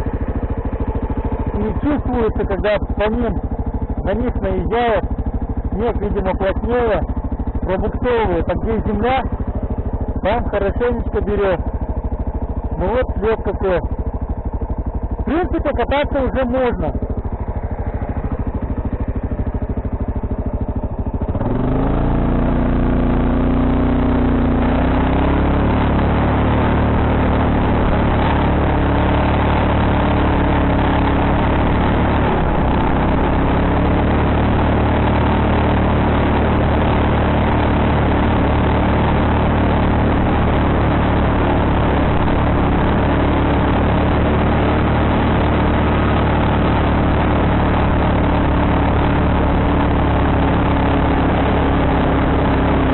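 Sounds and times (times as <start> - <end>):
quad bike engine revving: 0.0 - 52.9.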